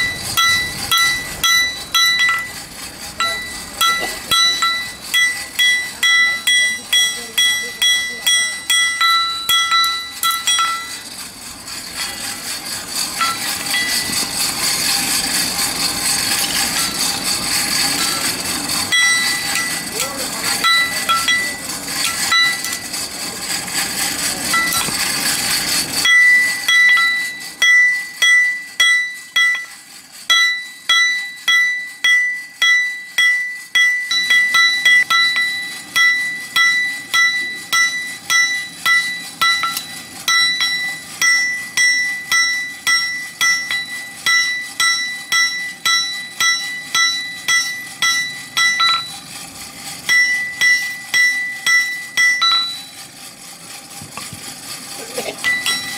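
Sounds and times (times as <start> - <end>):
hammer striking metal on anvil: 0.0 - 49.3, 50.0 - 53.1, 55.2 - 55.9
forge air blower rushing: 0.0 - 55.9.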